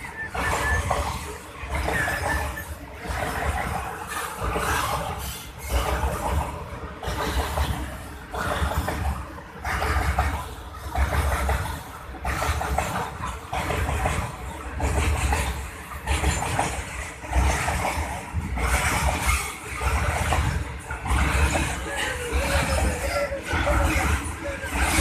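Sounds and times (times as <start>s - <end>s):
moving train rumble: 0.0s - 25.0s.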